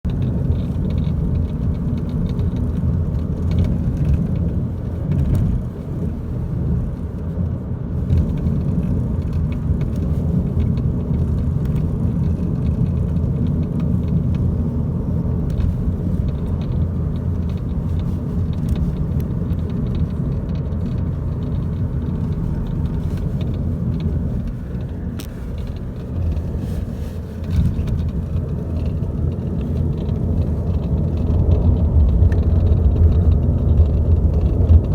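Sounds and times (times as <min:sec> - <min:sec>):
dashboard ticks and rattles: 0:00.1 - 0:05.7, 0:08.1 - 0:34.9
car engine rumble inside cabin: 0:00.1 - 0:34.9.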